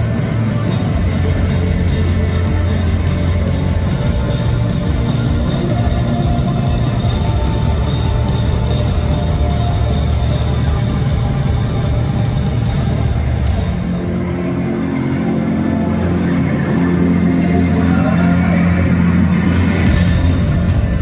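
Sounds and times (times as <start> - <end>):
rock band playing heavy music: 0.0 - 21.0.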